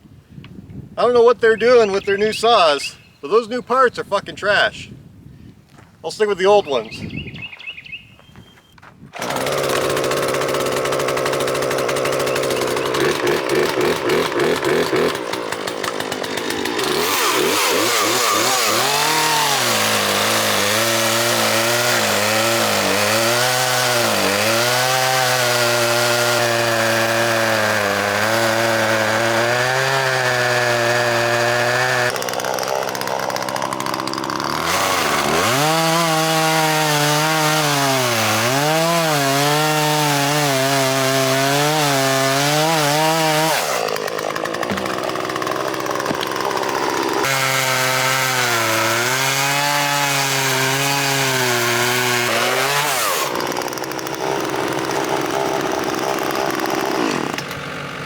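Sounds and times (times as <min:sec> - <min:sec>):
chainsaw running: 0:09.2 - 0:58.0.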